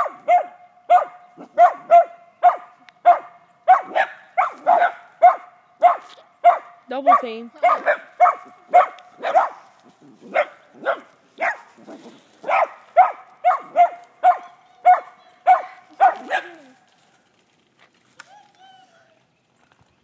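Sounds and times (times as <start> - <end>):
dogs barking: 0.0 - 16.7.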